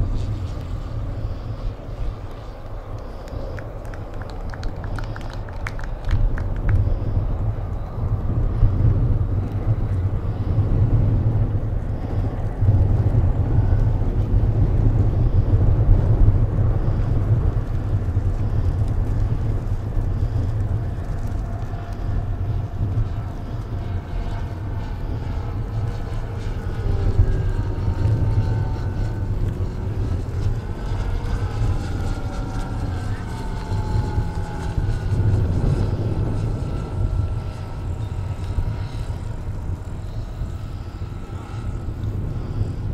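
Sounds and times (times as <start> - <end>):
model airplane propeller droning: 0.0 - 42.9.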